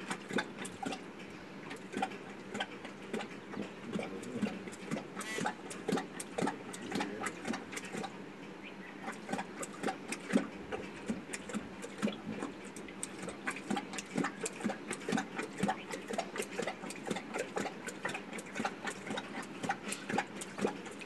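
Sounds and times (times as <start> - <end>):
lion lapping water: 0.0 - 21.0.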